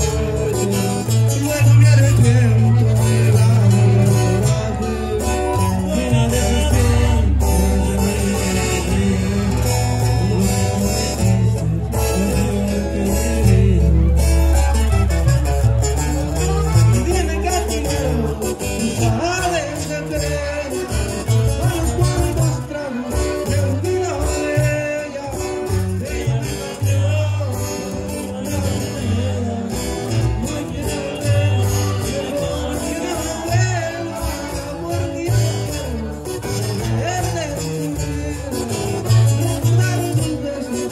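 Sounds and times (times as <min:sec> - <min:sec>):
accordion: 0:00.0 - 0:40.9
bass line: 0:00.0 - 0:40.9
guitar: 0:00.0 - 0:40.9.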